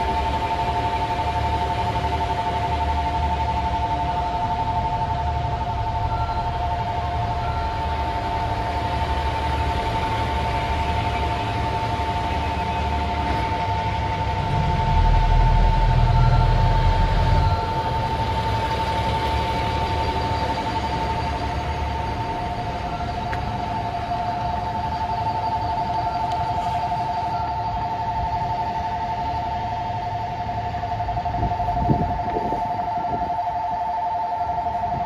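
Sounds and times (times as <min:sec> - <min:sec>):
diesel train rumbling: 0:00.0 - 0:35.0.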